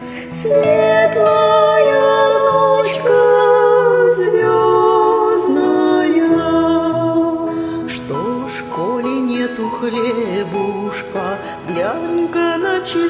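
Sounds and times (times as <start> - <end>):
choir-like vocal lullaby: 0.1 - 13.0.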